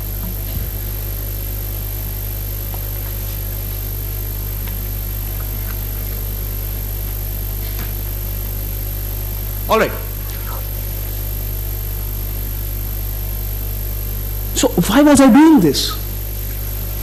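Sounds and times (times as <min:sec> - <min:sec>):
sound system electrical hum: 0:00.0 - 0:17.0.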